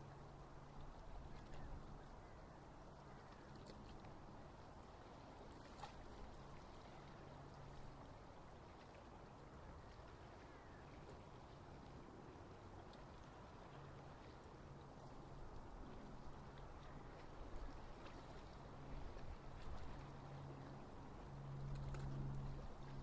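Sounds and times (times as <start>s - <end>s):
faint motor hum: 0.0s - 23.0s
low background wash: 0.0s - 23.0s.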